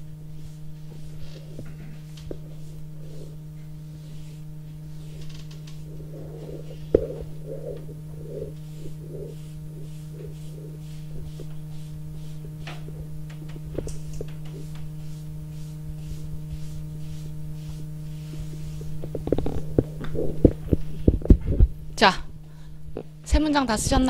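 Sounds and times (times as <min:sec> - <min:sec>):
eraser wiping a blackboard: 0:00.0 - 0:21.2
low electrical hum: 0:00.0 - 0:24.0.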